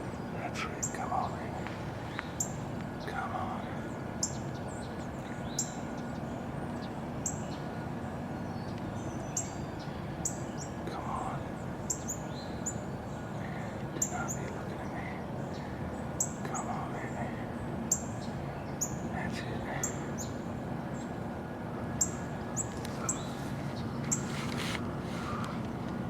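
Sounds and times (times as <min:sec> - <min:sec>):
background hiss: 0:00.0 - 0:26.0
small birds chipping: 0:00.0 - 0:26.0.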